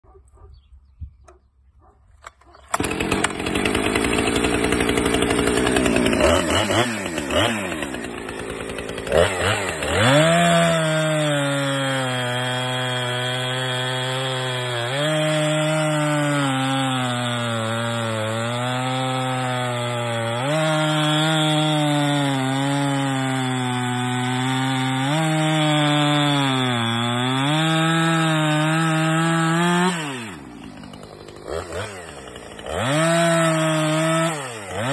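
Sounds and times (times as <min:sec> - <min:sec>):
chainsaw cutting log: 0:02.2 - 0:34.9.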